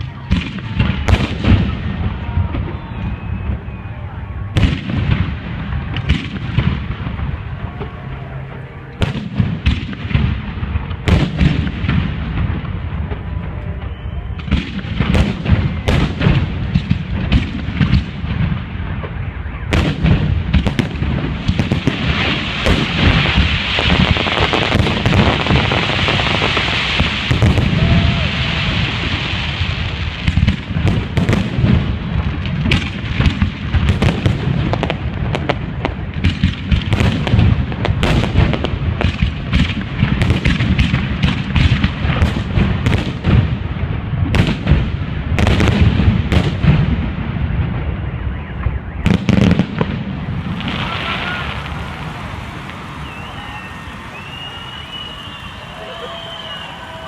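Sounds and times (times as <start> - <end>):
fireworks bangs and booms: 0.0 - 57.0.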